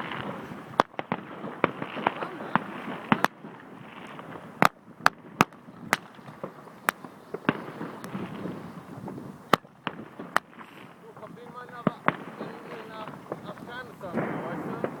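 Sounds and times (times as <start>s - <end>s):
firecrackers banging: 0.0s - 15.0s.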